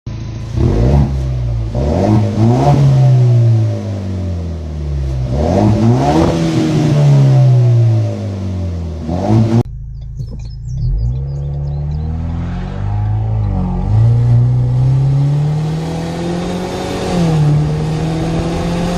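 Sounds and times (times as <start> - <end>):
engine revving through exhaust: 0.4 - 18.9.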